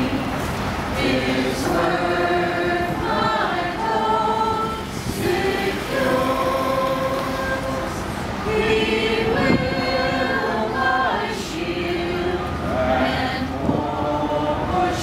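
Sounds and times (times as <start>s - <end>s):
group singing a hymn: 0.0s - 15.0s
wind rumbling on microphone: 0.0s - 15.0s.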